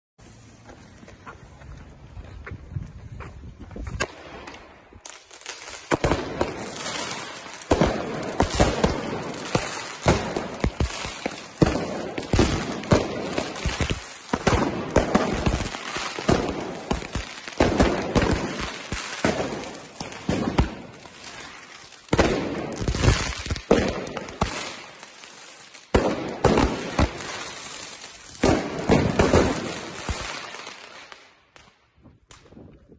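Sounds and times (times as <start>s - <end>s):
fireworks bangs and crackling: 0.2s - 32.9s.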